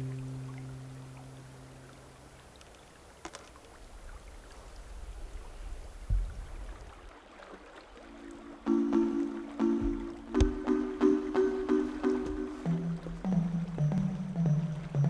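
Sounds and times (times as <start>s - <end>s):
brook water running: 0.0s - 15.0s.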